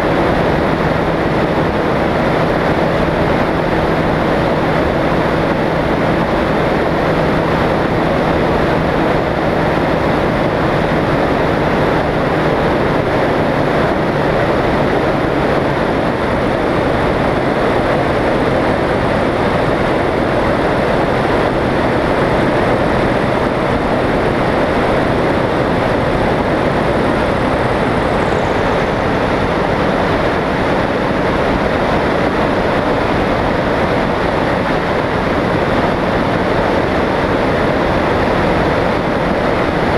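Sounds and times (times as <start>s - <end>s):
engine and propeller running: 0.0s - 39.9s
wind rushing over microphone: 0.0s - 39.9s.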